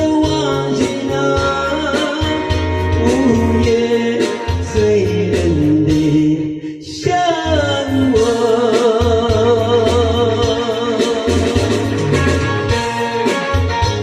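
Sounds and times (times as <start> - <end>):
song with sung melody and beat: 0.0 - 14.0.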